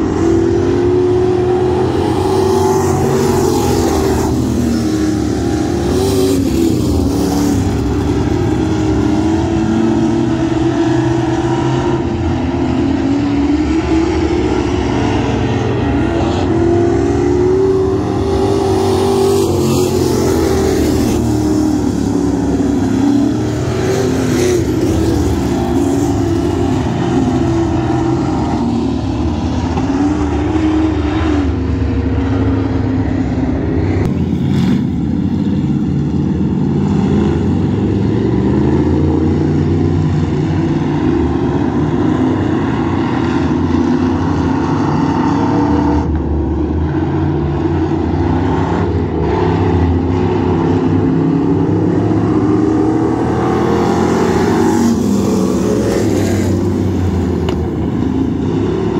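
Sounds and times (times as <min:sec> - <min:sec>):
race car engines running hard: 0:00.0 - 0:58.9.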